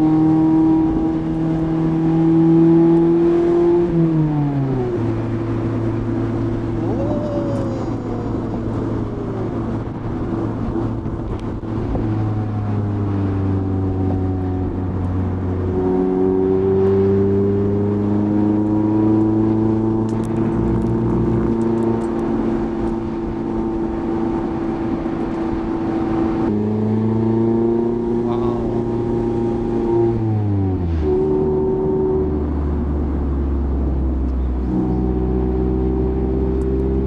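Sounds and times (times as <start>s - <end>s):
car engine pulling through gears: 0.0s - 37.0s.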